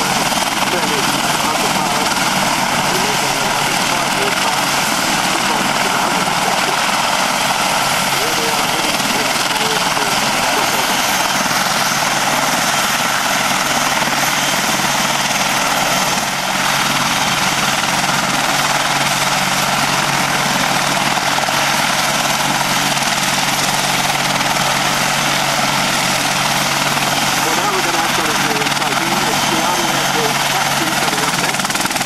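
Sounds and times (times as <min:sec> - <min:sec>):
helicopter rotor noise: 0:00.0 - 0:32.0
helicopter turbine whine: 0:00.0 - 0:32.0.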